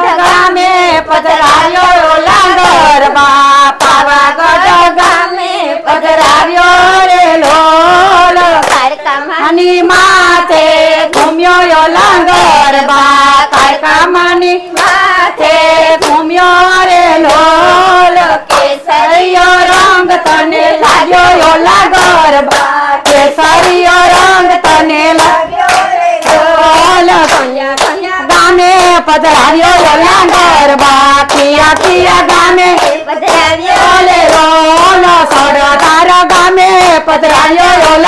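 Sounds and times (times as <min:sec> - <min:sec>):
rhythmic hand clapping: 0:00.0 - 0:38.0
women singing: 0:00.0 - 0:38.0.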